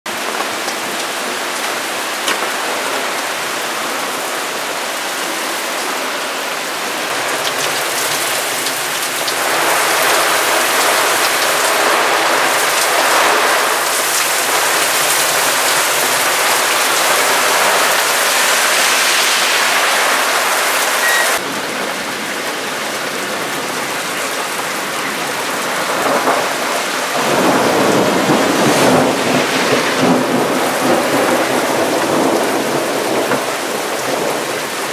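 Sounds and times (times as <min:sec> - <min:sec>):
heavy rain pouring: 0:00.1 - 0:34.9
water gushing along a gutter: 0:00.1 - 0:34.9.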